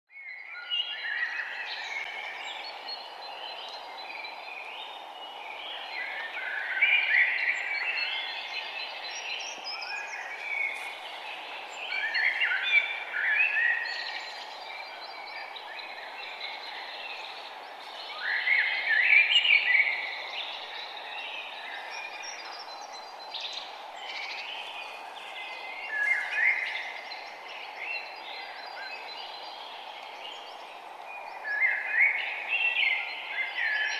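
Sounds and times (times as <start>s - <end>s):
forest birds singing and chirping: 0.1s - 33.9s
steady background hiss: 0.3s - 33.9s.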